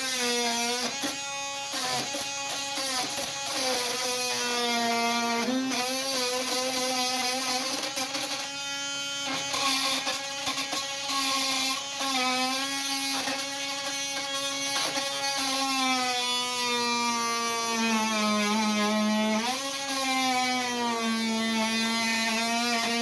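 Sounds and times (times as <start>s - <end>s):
oscillating multi-tool buzzing: 0.0s - 23.0s.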